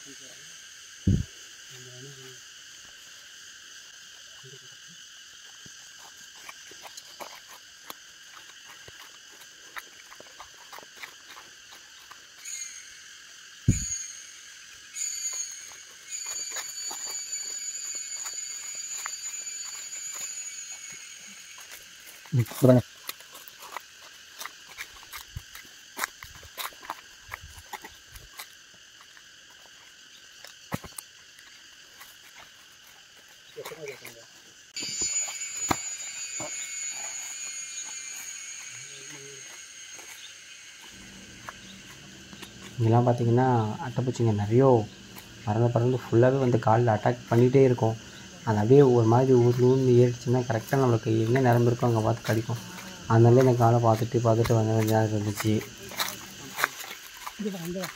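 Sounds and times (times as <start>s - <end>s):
insect chorus buzzing: 0.0s - 57.9s.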